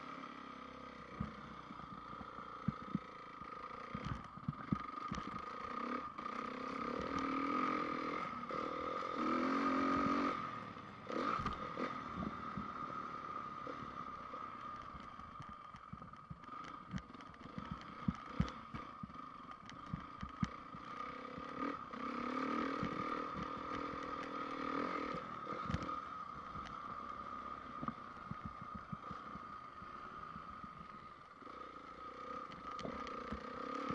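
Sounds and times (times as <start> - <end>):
motocross bike engine accelerating: 0.0 - 33.9.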